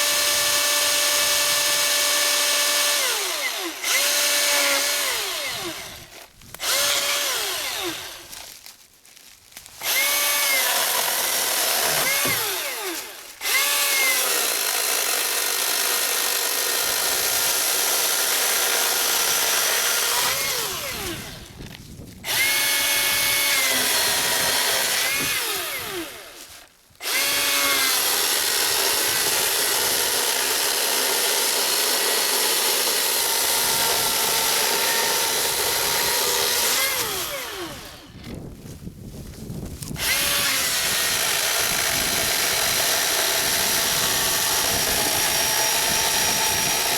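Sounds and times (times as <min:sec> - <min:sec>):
electric chainsaw motor whine: 0:00.0 - 0:08.5, 0:09.8 - 0:38.4, 0:39.8 - 0:46.9.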